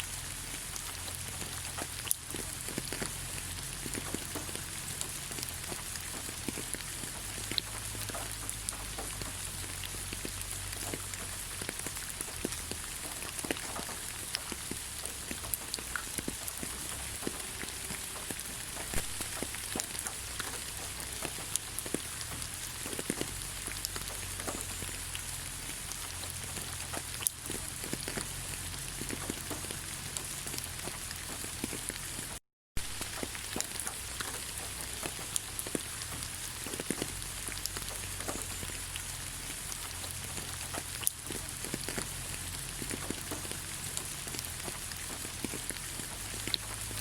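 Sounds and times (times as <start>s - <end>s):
rain falling on leaves: 0.0s - 47.0s.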